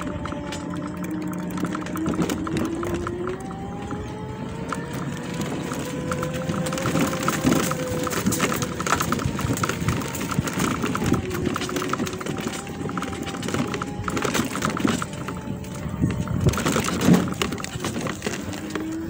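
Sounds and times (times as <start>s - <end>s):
faint electric motor whine: 0.0s - 19.0s
tyres crunching over gravel: 0.0s - 19.0s.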